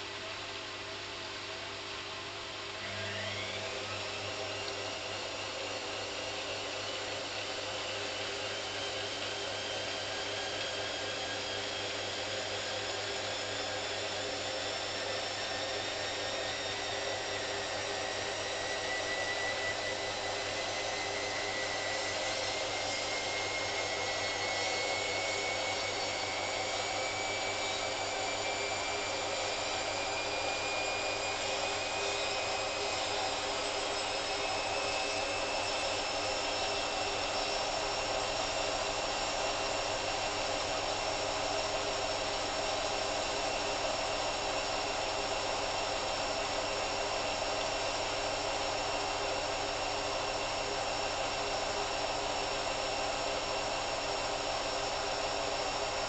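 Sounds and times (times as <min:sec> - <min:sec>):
washing machine spinning: 0:02.4 - 0:56.0.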